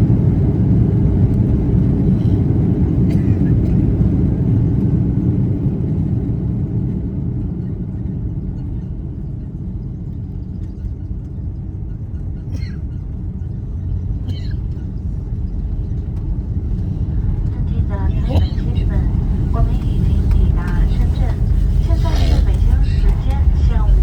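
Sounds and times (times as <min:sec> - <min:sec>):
aircraft cabin rumble: 0:00.0 - 0:24.0.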